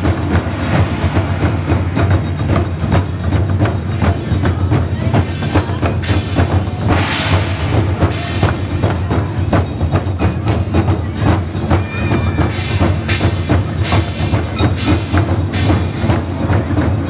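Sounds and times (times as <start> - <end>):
drum and wood-block strokes: 0.0 - 17.0.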